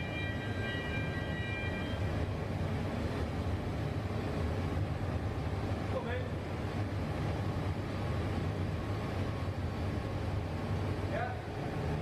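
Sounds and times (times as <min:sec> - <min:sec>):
high steady whine: 0:00.0 - 0:12.0
low rumble of foundry machinery: 0:00.0 - 0:12.0.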